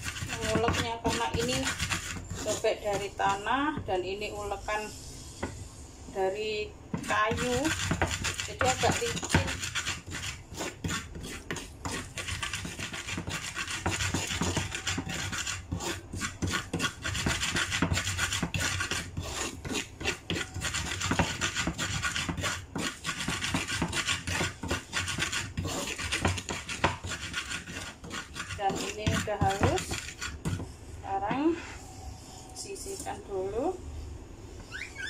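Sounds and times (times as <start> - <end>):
wooden pestle grinding in clay mortar: 0.0 - 4.0, 6.9 - 31.6.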